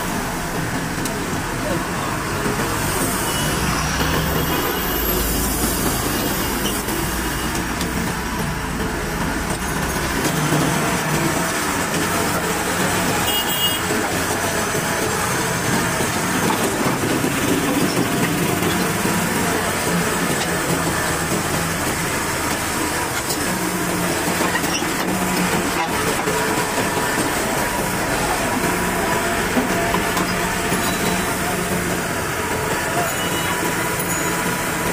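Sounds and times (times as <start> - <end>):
excavator diesel engine running: 0.0 - 34.9
road traffic: 0.0 - 34.9.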